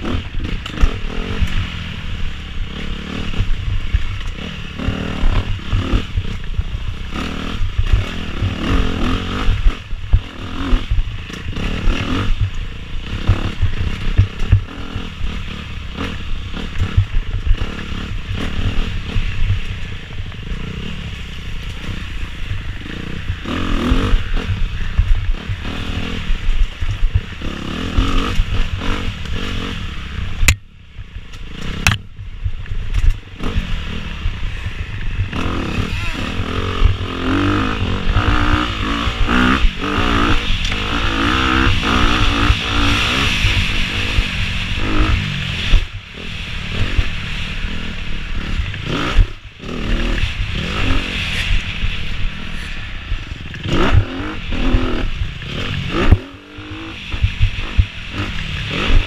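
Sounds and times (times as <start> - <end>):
dirt bike engine revving: 0.0 - 30.6, 31.2 - 59.0.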